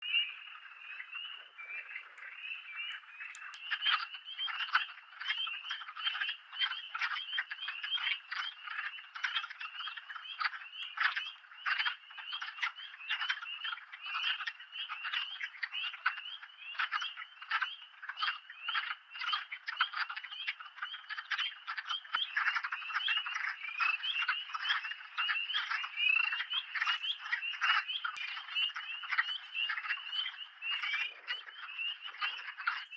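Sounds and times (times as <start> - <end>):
frog chorus clucking: 0.0 - 32.9.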